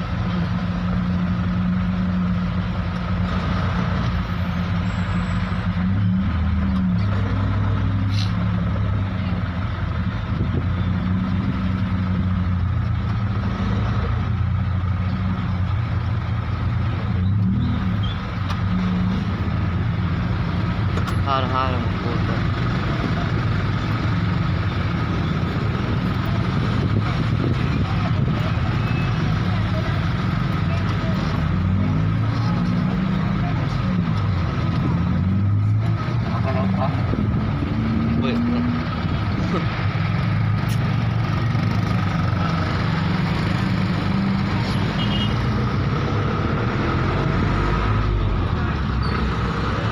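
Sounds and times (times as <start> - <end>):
street noise: 0.0 - 49.9
vehicle engine humming: 0.0 - 49.9.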